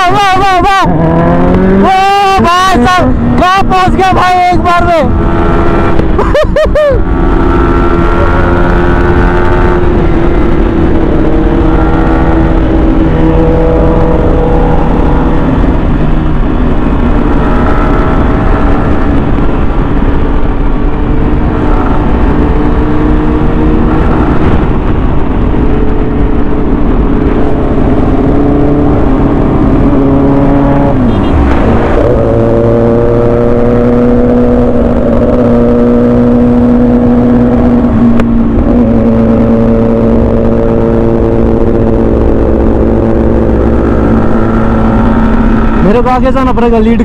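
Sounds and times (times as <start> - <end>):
motorcycle engine cruising: 0.0 - 47.0
wind rumble on microphone: 0.8 - 47.0.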